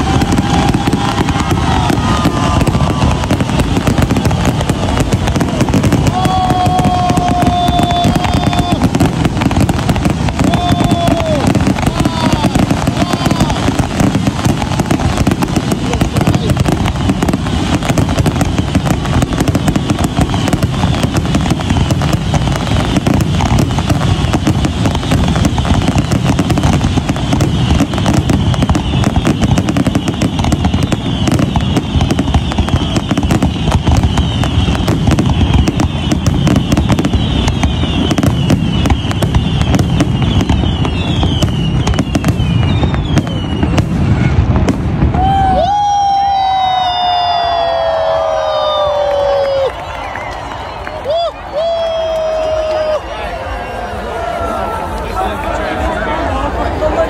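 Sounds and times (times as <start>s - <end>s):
fireworks high falling whistles: 0.0s - 55.0s
fireworks crackling bangs: 0.0s - 55.9s.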